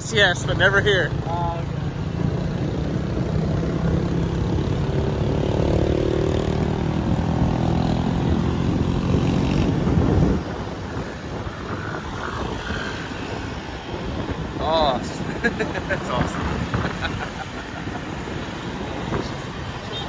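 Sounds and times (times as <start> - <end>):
road and wind noise: 0.0 - 20.0
motor scooter engine drone: 3.1 - 20.0.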